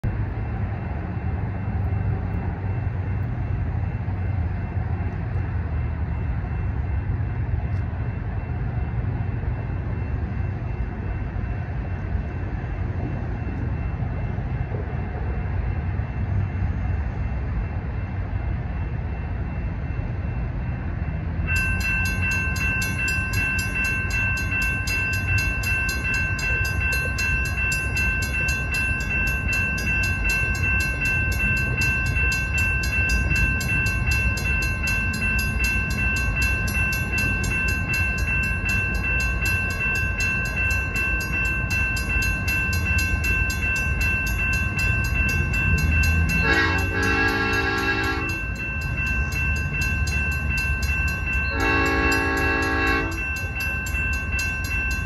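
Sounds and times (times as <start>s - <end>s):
railroad crossing bell ringing: 0.0s - 55.0s.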